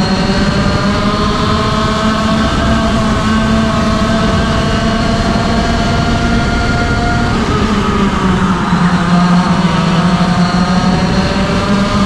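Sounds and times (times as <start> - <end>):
go-kart engine at full throttle: 0.0 - 12.0.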